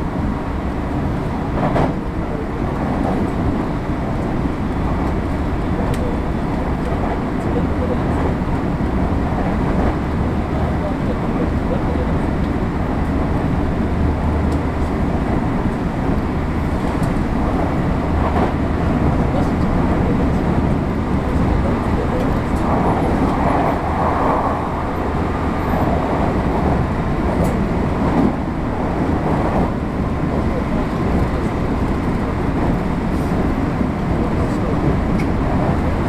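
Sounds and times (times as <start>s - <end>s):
wheels rumbling on rail: 0.0s - 36.0s.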